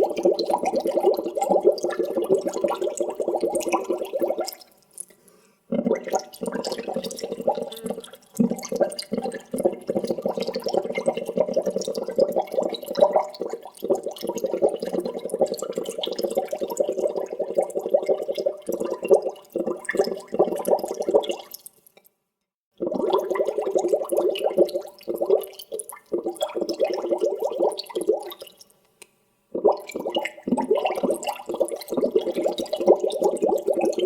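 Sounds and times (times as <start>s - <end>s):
water bubbling: 0.0s - 4.7s, 5.7s - 21.6s, 22.8s - 28.5s, 29.5s - 34.0s.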